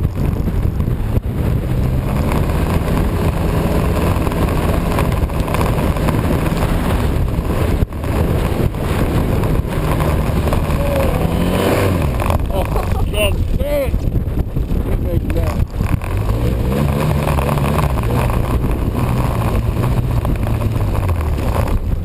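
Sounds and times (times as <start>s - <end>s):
snowmobile engine running: 0.0s - 22.0s
wind rushing over microphone: 0.0s - 22.0s.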